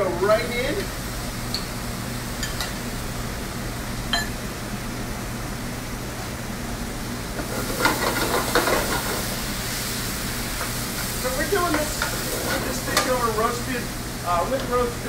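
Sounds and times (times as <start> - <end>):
ventilation hiss and hum: 0.0 - 15.0.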